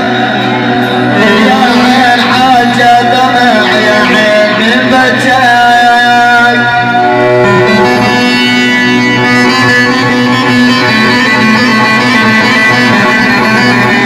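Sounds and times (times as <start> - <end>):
instrumental melody over drone: 0.0 - 14.0.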